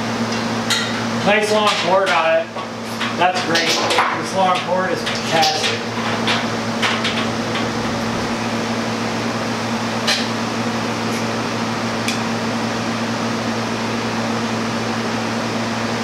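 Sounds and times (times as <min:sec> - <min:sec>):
chiller humming: 0:00.0 - 0:16.0.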